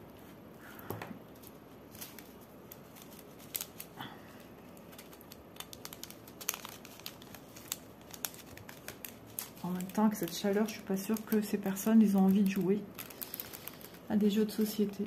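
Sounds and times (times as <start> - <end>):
plastic crinkling: 0.6 - 15.0.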